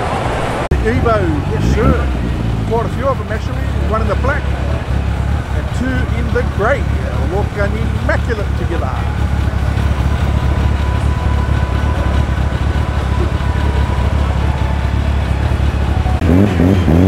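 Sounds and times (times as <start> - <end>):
car engines running at low revs: 0.0 - 17.0.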